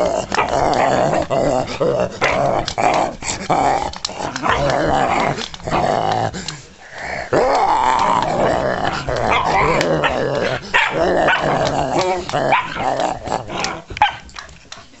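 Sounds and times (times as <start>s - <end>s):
dog growling and barking: 0.0s - 14.5s.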